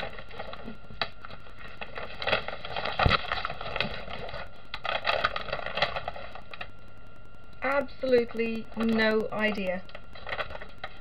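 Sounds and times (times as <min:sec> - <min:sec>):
release paper crinkling: 0:00.0 - 0:06.9, 0:08.1 - 0:11.0.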